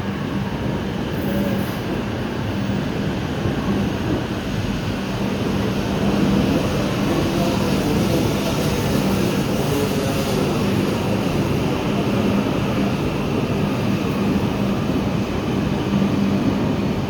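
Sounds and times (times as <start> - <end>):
train running slowly: 0.0 - 17.0.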